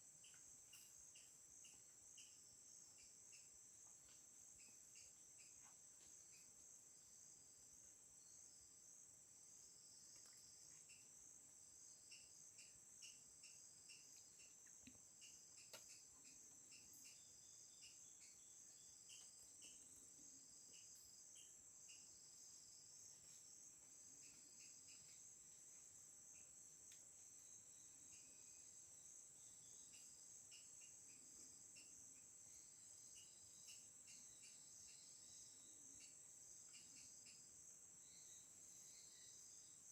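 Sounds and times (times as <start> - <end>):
insect chorus trilling: 0.2 - 5.7, 9.6 - 39.9.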